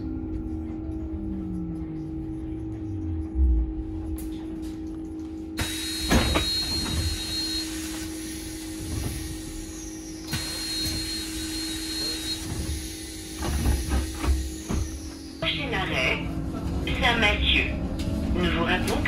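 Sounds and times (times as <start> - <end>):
bus cabin hum: 0.0 - 19.0.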